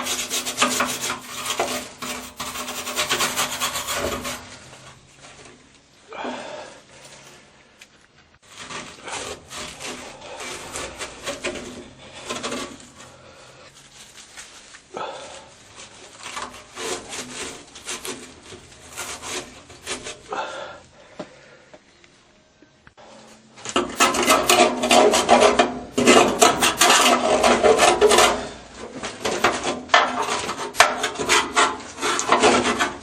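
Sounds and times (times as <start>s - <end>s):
rust scraping off metal: 0.0s - 5.6s, 8.4s - 20.4s, 23.5s - 33.0s.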